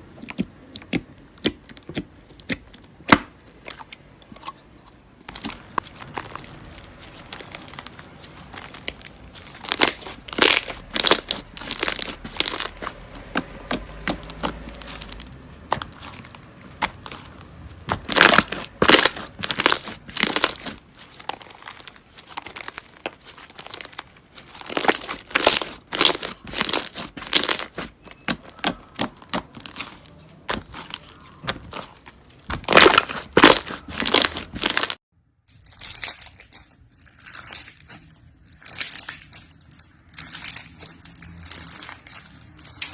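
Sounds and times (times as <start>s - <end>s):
slime crackling and popping: 5.2s - 42.9s.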